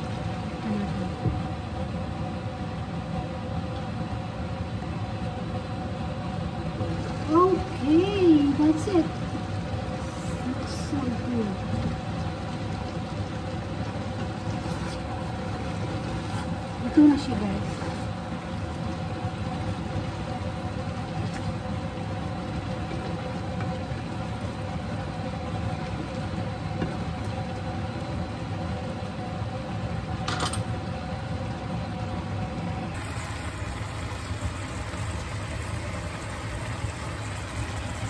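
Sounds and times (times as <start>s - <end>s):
machine hum with low rumble: 0.0s - 38.0s.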